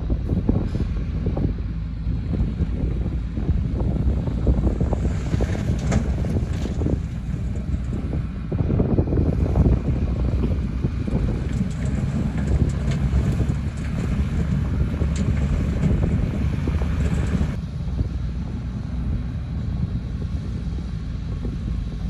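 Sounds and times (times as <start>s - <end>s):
truck diesel engine running: 0.0s - 22.0s
wind rumbling on microphone: 0.0s - 22.0s.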